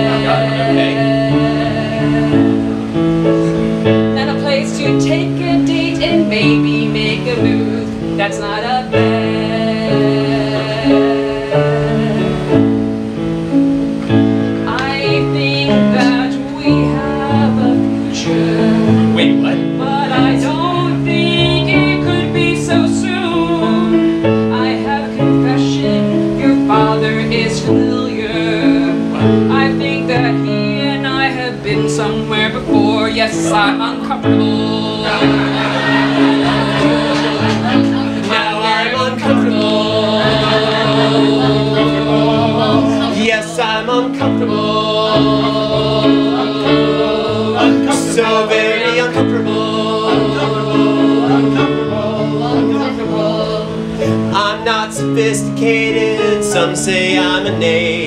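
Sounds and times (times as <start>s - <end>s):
person singing: 0.0s - 12.8s, 14.6s - 58.0s
electric keyboard chords: 0.0s - 58.0s.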